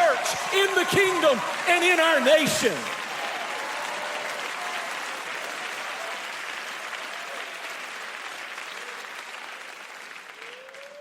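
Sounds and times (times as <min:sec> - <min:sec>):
congregation applauding: 0:00.0 - 0:11.0.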